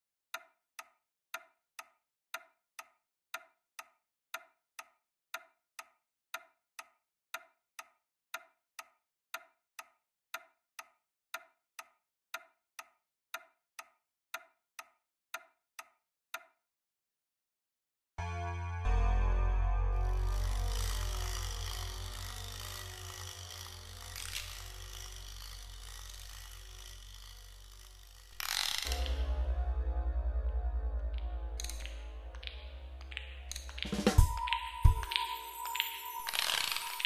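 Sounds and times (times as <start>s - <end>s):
clock ticking: 0.3s - 16.6s, 20.0s - 37.0s.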